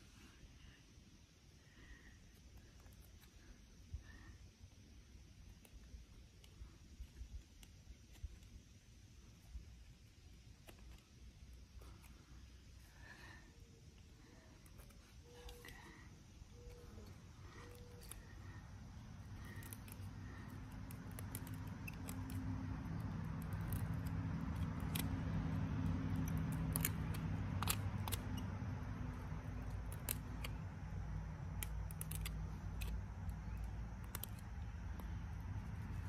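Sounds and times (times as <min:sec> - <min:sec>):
knife carving dry fungus: 0:02.1 - 0:13.0, 0:13.6 - 0:36.0.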